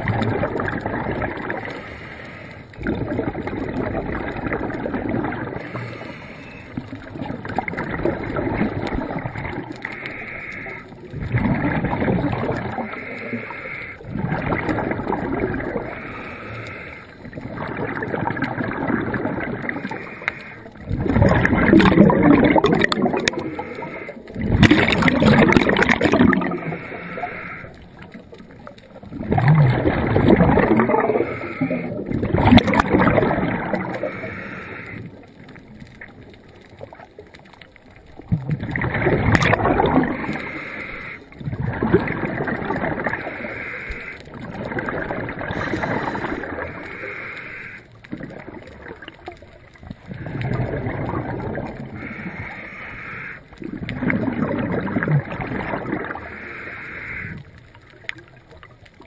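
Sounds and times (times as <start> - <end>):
diver breathing underwater: 0.0 - 6.9, 7.5 - 35.4, 38.8 - 49.0, 50.1 - 57.6.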